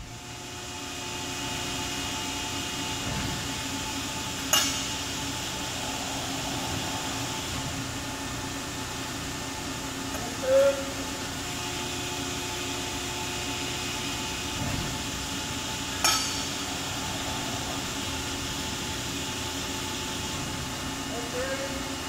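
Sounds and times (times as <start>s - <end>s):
hydraulic pump humming: 0.0s - 22.0s.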